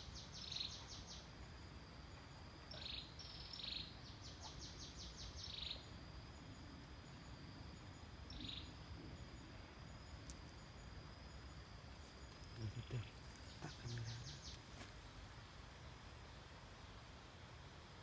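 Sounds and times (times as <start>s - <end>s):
thin steady high tone: 0.0s - 14.6s
bird chirping: 0.0s - 14.7s.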